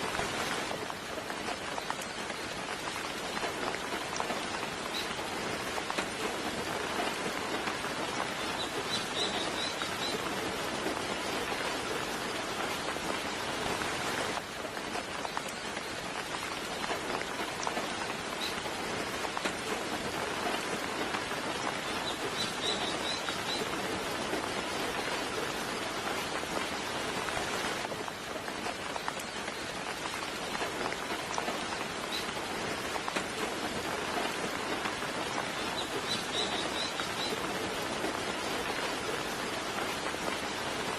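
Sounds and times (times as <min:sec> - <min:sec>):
soft rain falling: 0:00.0 - 0:40.9.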